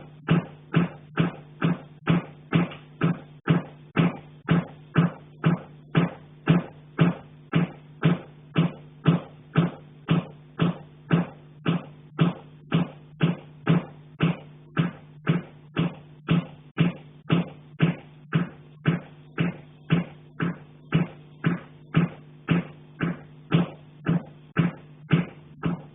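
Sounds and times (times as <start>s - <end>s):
knocking on metal heating pipe: 0.2s - 25.9s.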